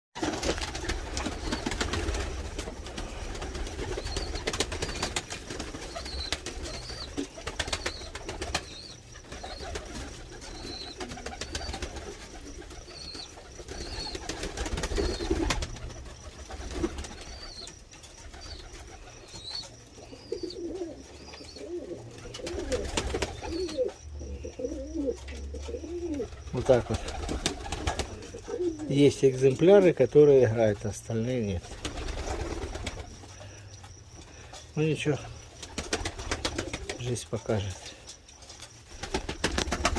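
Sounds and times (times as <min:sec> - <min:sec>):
pigeons cooing: 0:00.2 - 0:30.4, 0:31.4 - 0:37.0.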